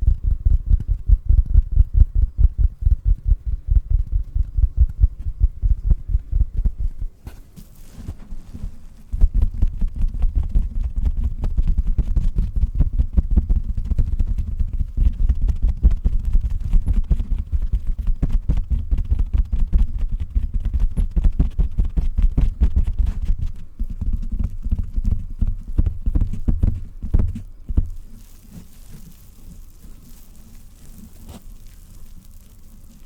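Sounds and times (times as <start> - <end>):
dull tapping on a pillow: 0.0 - 7.4, 8.1 - 28.0
soft hiss: 0.0 - 33.0.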